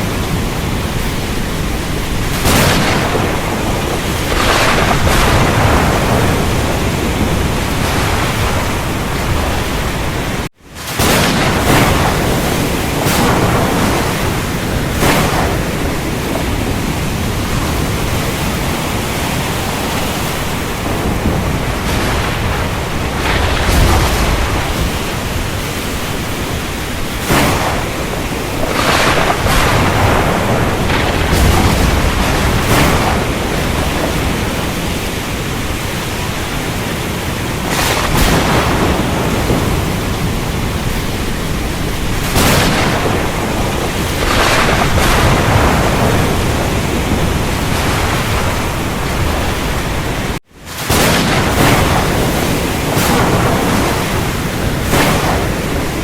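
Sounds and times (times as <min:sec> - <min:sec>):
heavy rain: 0:00.0 - 0:56.0
thunder cracks and rumbles: 0:00.0 - 0:56.0.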